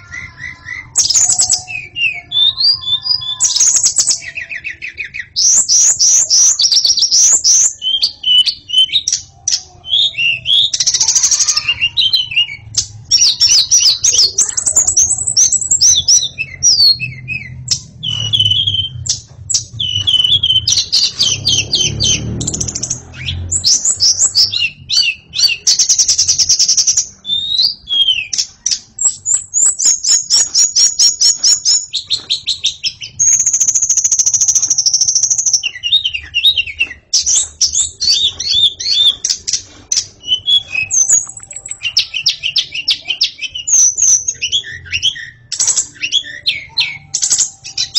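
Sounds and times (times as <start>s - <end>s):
songbird singing whistles and trills: 0.0s - 47.9s.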